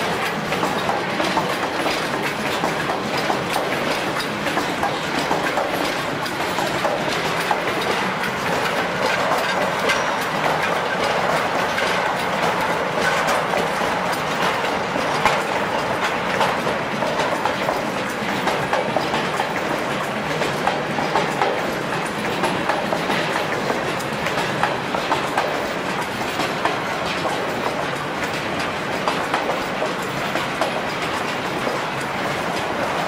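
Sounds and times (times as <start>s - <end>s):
train wheels on rails: 0.0s - 33.0s
wheels clicking over rail joints: 0.0s - 33.0s.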